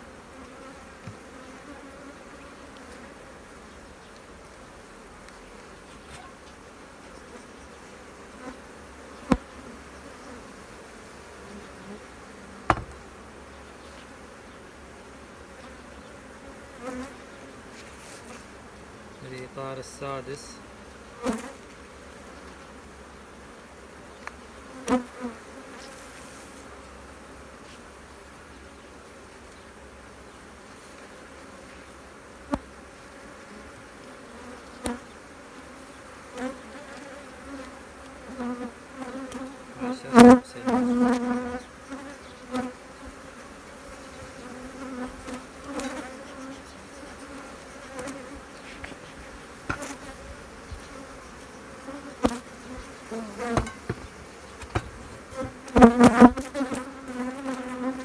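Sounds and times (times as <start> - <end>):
honeybees buzzing: 0.0 - 58.0.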